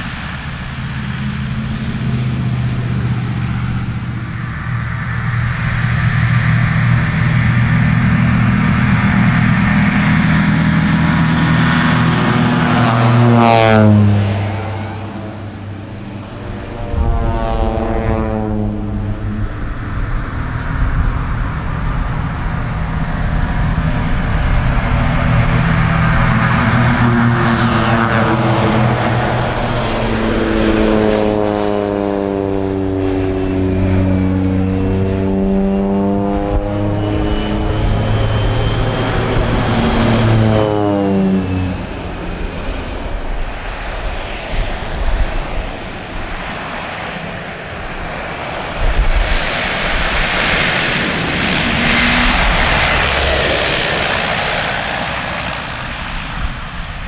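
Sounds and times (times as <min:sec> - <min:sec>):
biplane engine and propeller drone: 0:00.0 - 0:57.0
rough noisy aircraft engine: 0:00.0 - 0:57.0.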